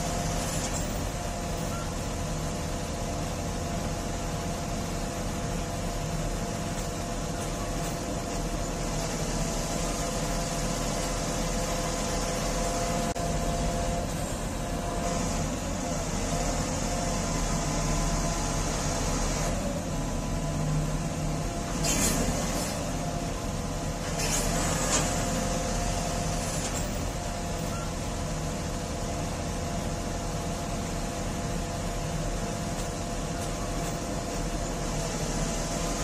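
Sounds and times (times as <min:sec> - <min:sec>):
crane diesel engine and hydraulics: 0:00.0 - 0:36.0.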